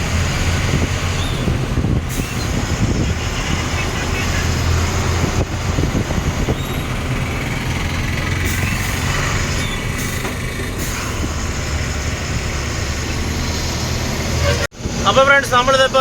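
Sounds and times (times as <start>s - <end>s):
road and tyre noise: 0.0s - 16.0s
truck engine drone: 0.0s - 16.0s.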